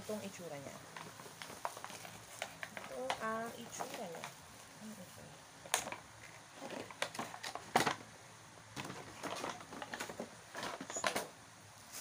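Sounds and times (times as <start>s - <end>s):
plastic and paper packaging crinkling: 0.0s - 8.1s, 8.7s - 12.0s.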